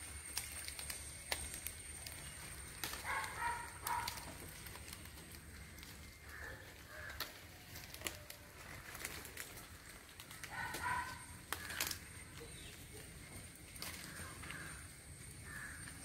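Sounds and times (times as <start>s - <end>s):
bird calling: 0.0s - 16.0s
leaves rustling: 0.0s - 16.0s.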